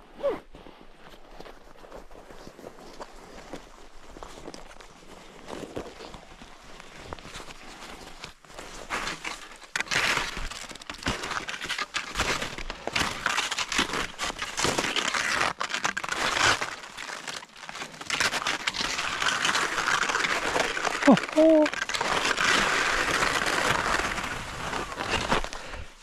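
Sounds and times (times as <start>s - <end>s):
footsteps crunching in snow: 0.7s - 10.4s, 11.2s - 26.0s.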